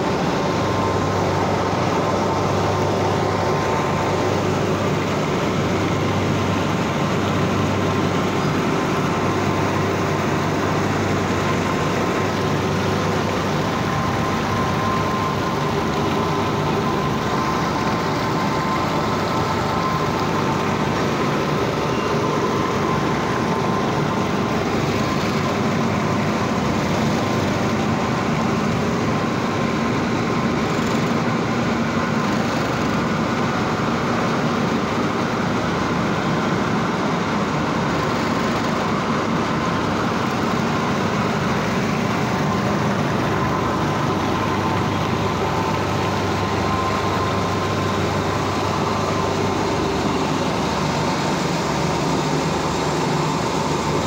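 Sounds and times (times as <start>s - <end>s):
faint steady whine: 0.0s - 54.0s
industrial machinery drone: 0.0s - 54.0s.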